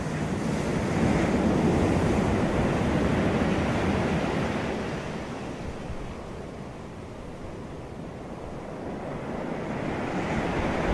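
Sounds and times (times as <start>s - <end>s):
ocean waves breaking on beach: 0.0s - 10.9s.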